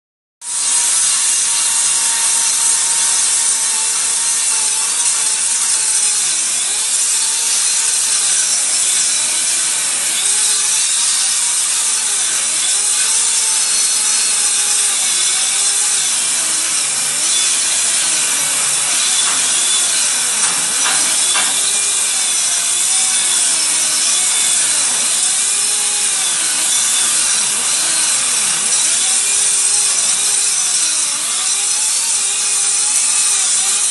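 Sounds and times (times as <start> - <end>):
grinder grinding steel: 0.4 - 33.9.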